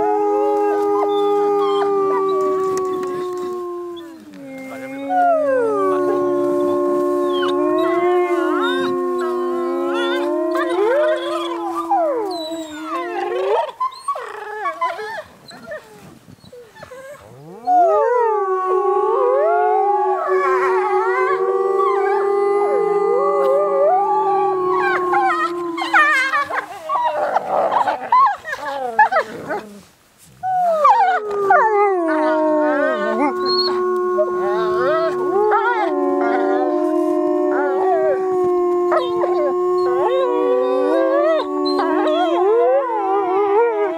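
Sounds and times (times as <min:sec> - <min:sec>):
people howling: 0:00.0 - 0:15.3, 0:17.2 - 0:29.8, 0:30.5 - 0:43.9
wolves howling: 0:00.0 - 0:15.8, 0:16.8 - 0:29.8, 0:30.5 - 0:43.9.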